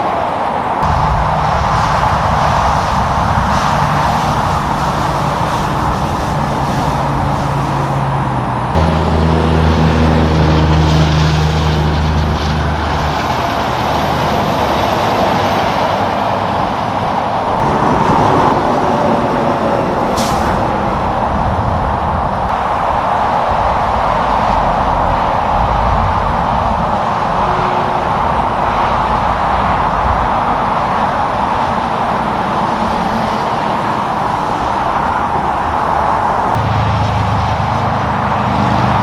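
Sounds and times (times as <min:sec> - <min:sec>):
diesel engine drone: 0:00.0 - 0:39.0
tyre and road noise: 0:00.0 - 0:39.0.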